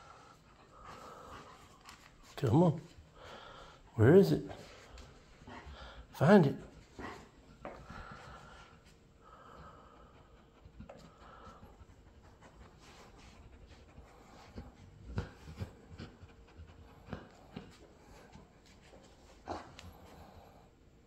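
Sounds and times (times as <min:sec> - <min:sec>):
dog sniffing and panting: 0:00.0 - 0:20.8.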